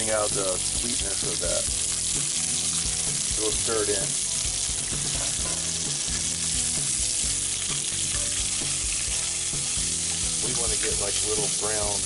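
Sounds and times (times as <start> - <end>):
corn and bacon sizzling: 0.0 - 12.0.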